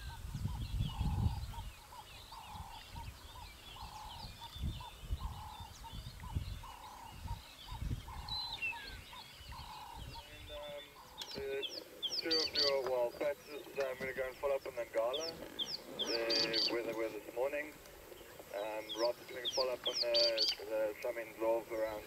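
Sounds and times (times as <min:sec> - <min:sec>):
wind rumble: 0:00.0 - 0:20.2
bird repeating low call: 0:00.0 - 0:22.0
birds twittering and chirping: 0:00.0 - 0:22.0.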